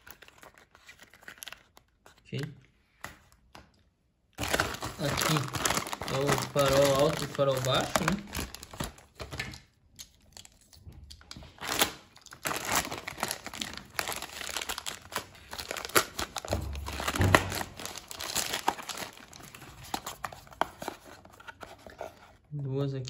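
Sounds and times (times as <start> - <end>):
plastic packaging crinkling: 0.0 - 2.4, 4.4 - 22.0.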